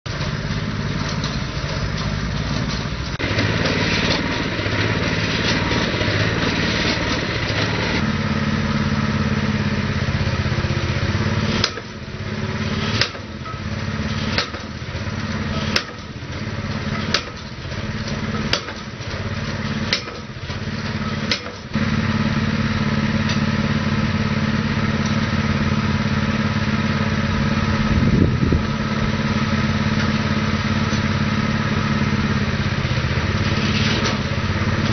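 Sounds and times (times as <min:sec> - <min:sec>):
petrol engine running: 0:00.1 - 0:34.9.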